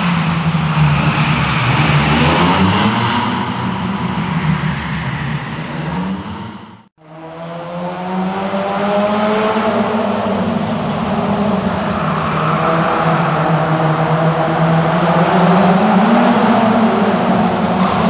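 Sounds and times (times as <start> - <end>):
car engine at high revs: 0.0 - 18.0.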